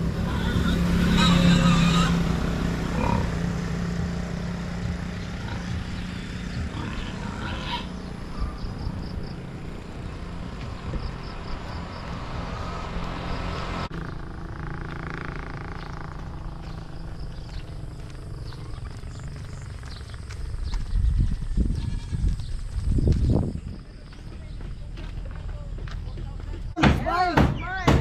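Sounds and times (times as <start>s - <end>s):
motor engine running: 0.0s - 26.8s.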